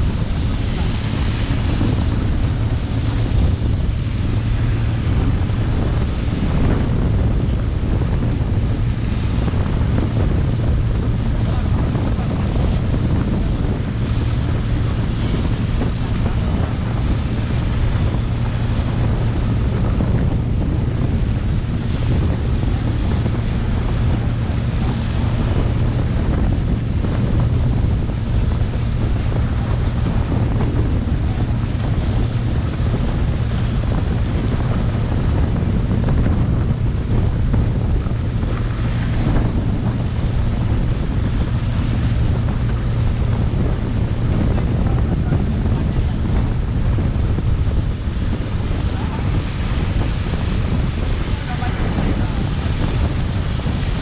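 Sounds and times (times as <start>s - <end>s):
motorboat engine humming: 0.0s - 54.0s
water washing past hull: 0.0s - 54.0s
wind on microphone: 0.0s - 54.0s.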